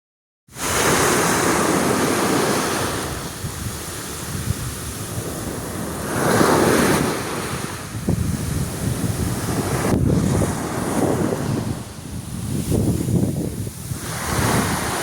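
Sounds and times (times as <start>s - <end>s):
sea waves breaking on beach: 0.5s - 15.0s
wind buffeting microphone: 0.9s - 15.0s.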